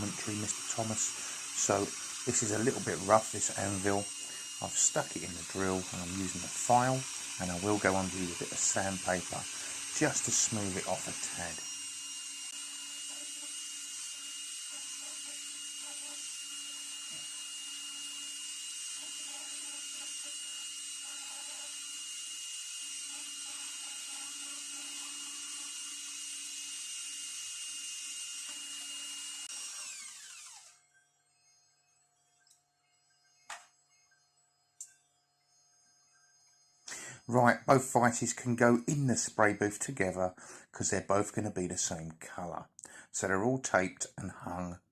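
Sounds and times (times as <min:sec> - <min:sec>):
electric drill motor whine: 0:00.0 - 0:40.6.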